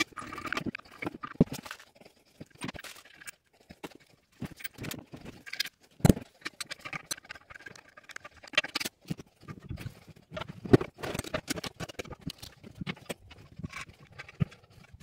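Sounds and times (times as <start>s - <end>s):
toilet tank parts clicking and clunking: 2.4s - 15.0s.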